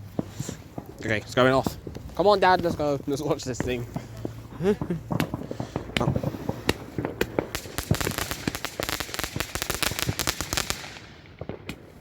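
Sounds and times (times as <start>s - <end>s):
firework cracks and pops: 0.0s - 12.0s.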